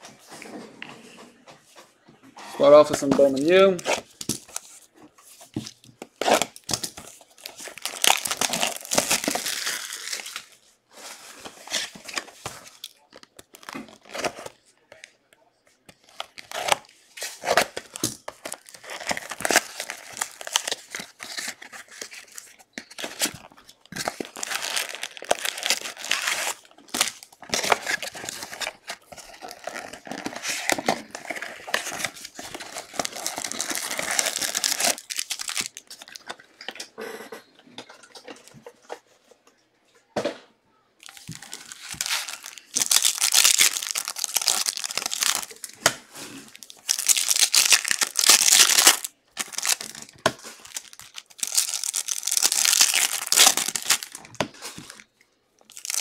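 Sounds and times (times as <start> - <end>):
plastic wrap crinkling: 3.1 - 14.5, 16.0 - 36.4, 41.0 - 56.0.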